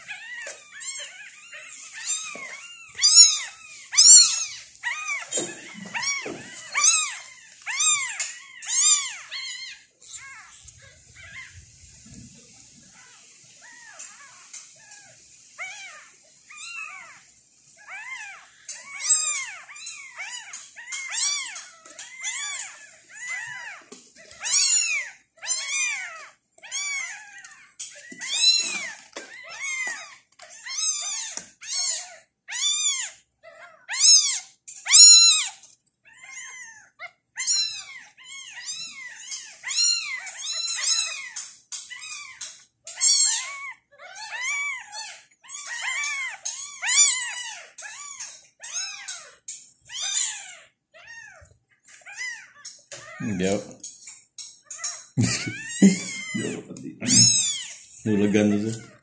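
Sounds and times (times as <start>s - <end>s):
kittens meowing: 0.0s - 59.0s.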